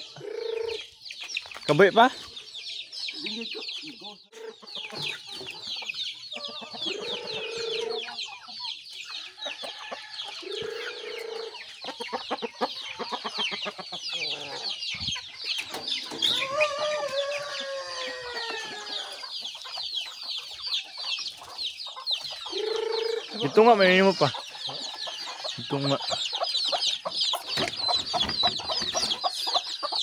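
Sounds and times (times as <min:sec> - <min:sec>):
adult chickens calling: 0:00.0 - 0:30.0
chicks peeping: 0:00.0 - 0:30.0.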